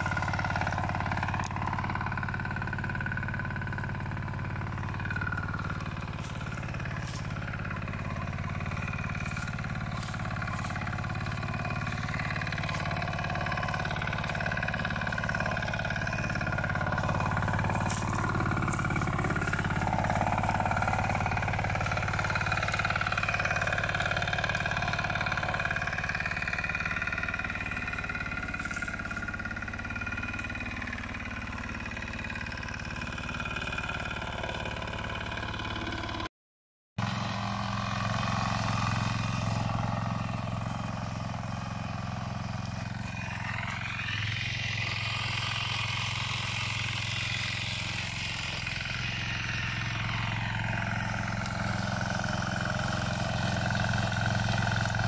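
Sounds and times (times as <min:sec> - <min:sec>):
motor tiller engine running: 0:00.0 - 0:36.3, 0:37.0 - 0:55.0.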